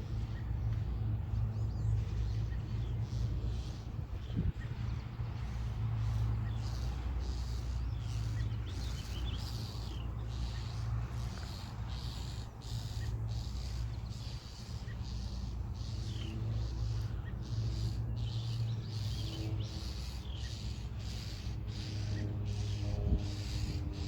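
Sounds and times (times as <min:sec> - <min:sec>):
birds alarm calling: 0:00.0 - 0:24.0
steady low rumble: 0:00.0 - 0:24.0.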